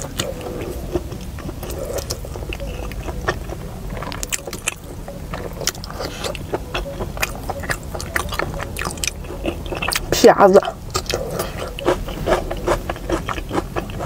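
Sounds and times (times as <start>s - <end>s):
low rumble: 0.0s - 14.0s
person chewing food: 0.0s - 14.0s.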